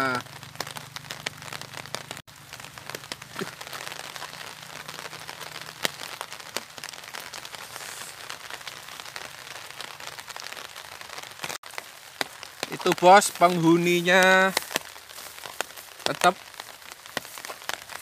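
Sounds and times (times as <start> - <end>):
rain pattering on umbrella: 0.0 - 18.0.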